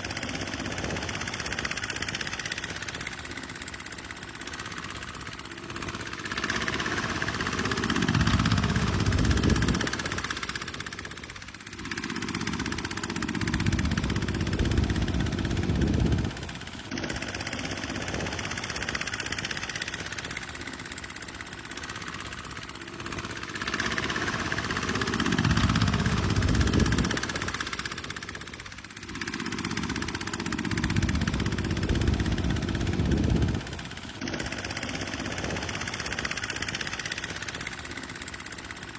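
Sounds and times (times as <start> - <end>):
tractor diesel engine: 0.0 - 38.9.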